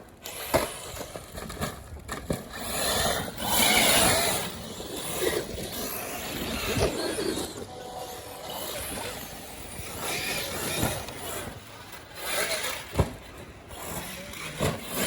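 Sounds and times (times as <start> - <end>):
electric rc truck driving on sand: 0.0 - 15.0.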